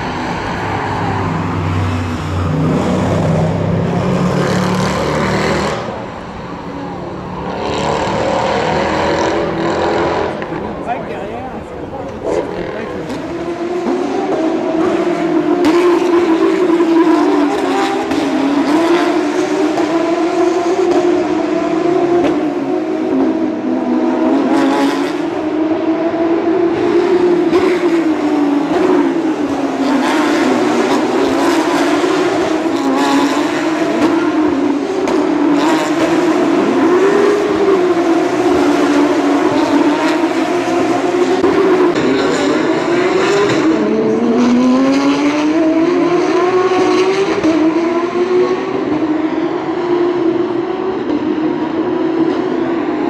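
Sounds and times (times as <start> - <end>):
race car engines at high revs: 0.0 - 53.0.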